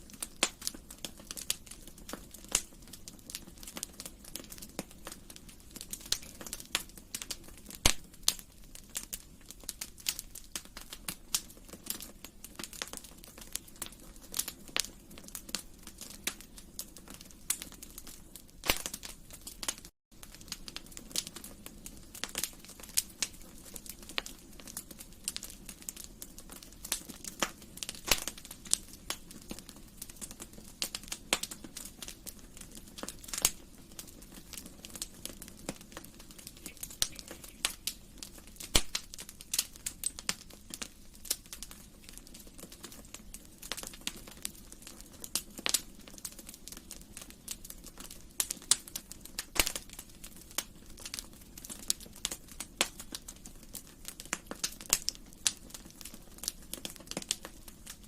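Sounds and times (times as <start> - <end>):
fire crackling in a fireplace: 0.0 - 58.0.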